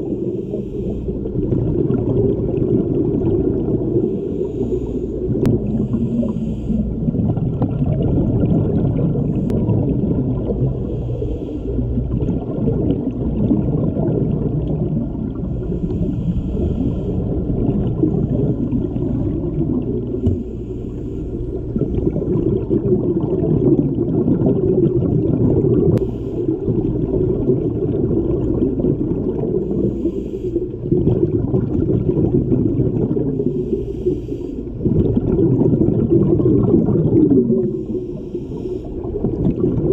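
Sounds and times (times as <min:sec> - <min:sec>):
faint steady whine: 0:00.0 - 0:39.9
low underwater rumble: 0:00.0 - 0:39.9
regulator bubbles gurgling: 0:00.0 - 0:39.9.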